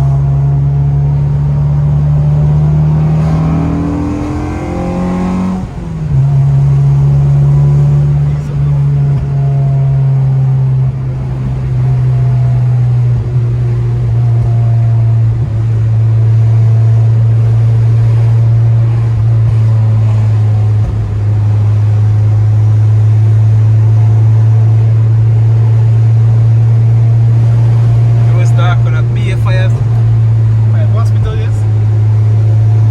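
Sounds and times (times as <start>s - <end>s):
car engine droning while driving: 0.0s - 32.9s.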